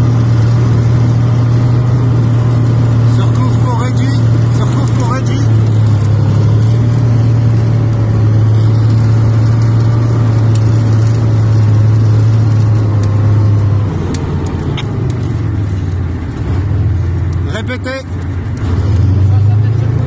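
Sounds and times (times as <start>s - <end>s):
tank diesel engine running: 0.0s - 20.0s.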